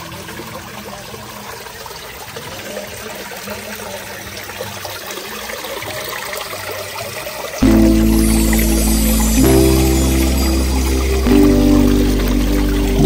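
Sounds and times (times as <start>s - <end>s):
small waterfall splashing into pond: 0.0s - 13.0s.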